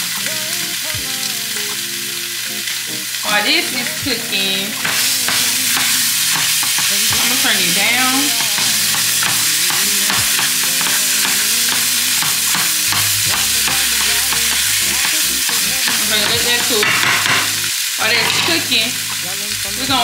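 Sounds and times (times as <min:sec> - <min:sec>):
meat sizzling in a frying pan: 0:00.0 - 0:20.0.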